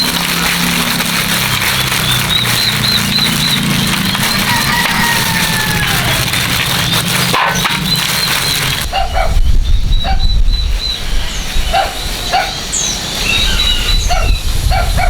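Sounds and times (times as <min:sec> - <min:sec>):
farm animal calls: 0:01.2 - 0:09.4, 0:10.0 - 0:15.0
high bird chirp: 0:01.7 - 0:06.2, 0:06.8 - 0:14.6.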